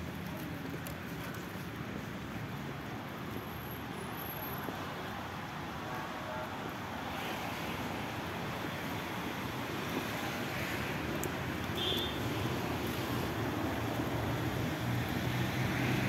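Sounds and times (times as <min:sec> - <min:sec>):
traffic hiss on wet road: 0:00.0 - 0:16.0.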